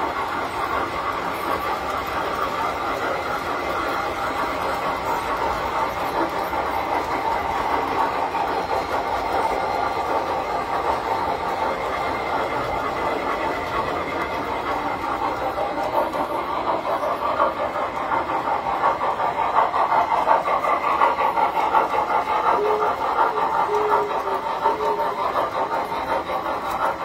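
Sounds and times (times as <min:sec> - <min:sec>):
model trains clattering: 0:00.0 - 0:27.0.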